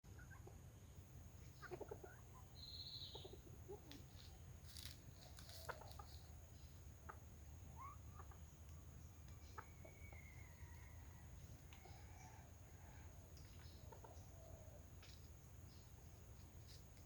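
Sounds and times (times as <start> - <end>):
junglefowl clucking: 1.4 - 15.2.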